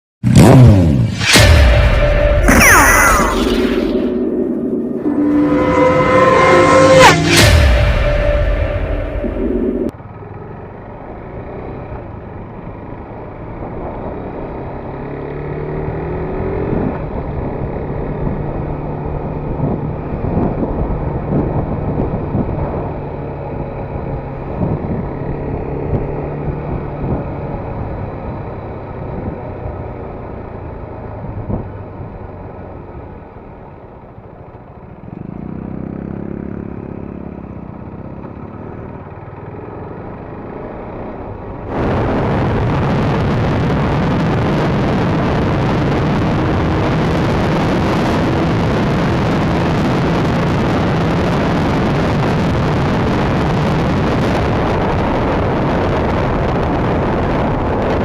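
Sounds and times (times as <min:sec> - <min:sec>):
motorcycle engine running: 0:09.4 - 0:58.0.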